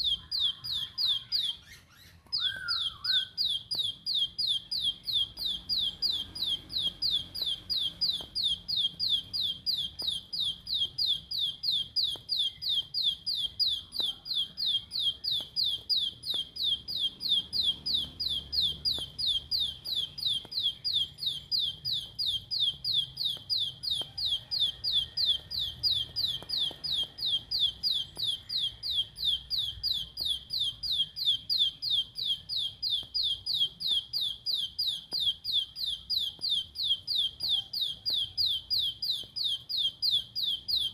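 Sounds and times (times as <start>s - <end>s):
bird rapid high calls: 0.0s - 40.9s.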